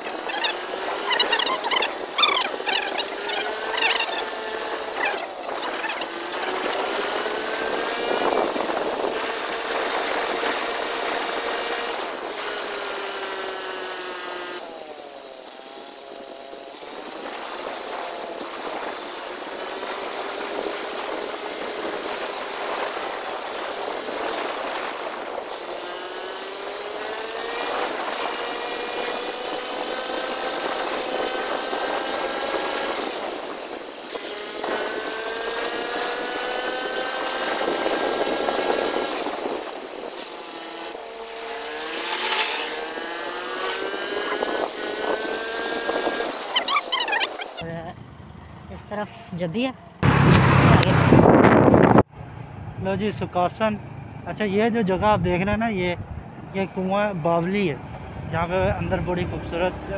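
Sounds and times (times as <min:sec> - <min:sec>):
motorcycle engine accelerating: 0:00.0 - 0:56.6.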